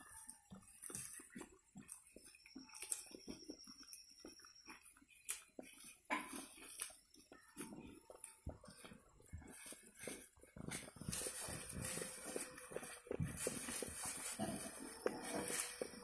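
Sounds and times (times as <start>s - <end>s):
lambs chewing dry stalks: 0.0s - 16.0s.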